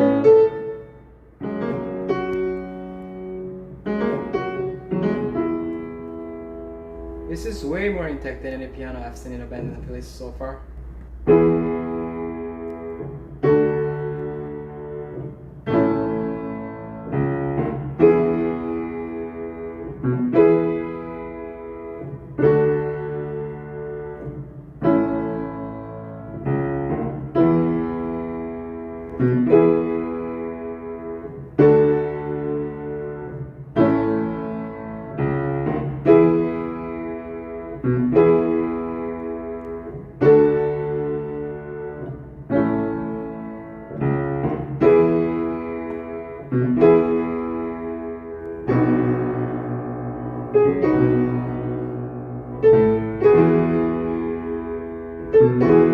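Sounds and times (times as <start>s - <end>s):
piano slow chords: 0.0s - 55.9s.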